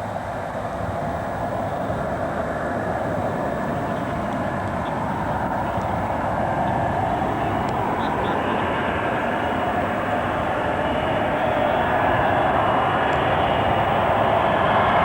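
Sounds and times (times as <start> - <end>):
jet engines roaring: 0.0 - 15.0
thin jet whine: 0.0 - 15.0.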